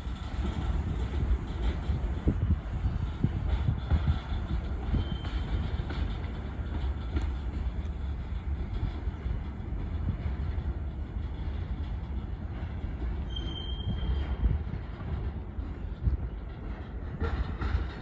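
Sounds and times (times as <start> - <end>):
freight train rumbling on rails: 0.0 - 18.0.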